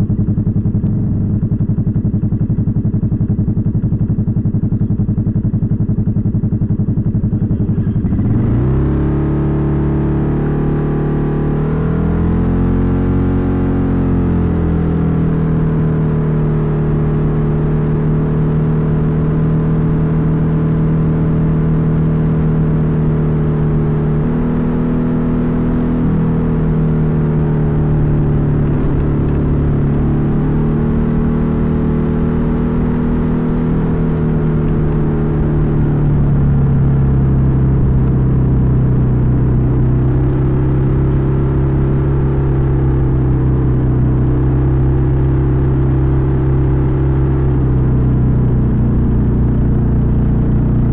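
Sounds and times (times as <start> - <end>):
scooter engine drone: 0.0 - 50.9.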